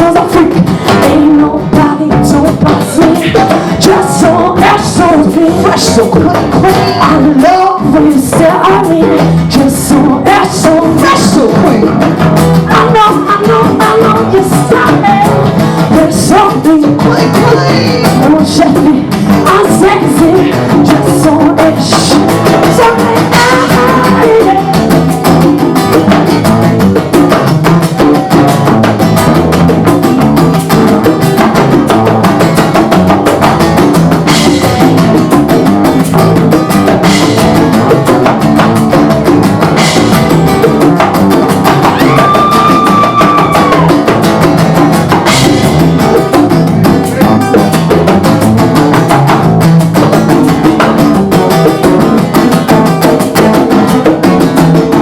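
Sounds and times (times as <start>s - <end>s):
bongos and hand percussion: 0.0s - 55.0s
strummed acoustic guitar: 0.0s - 55.0s.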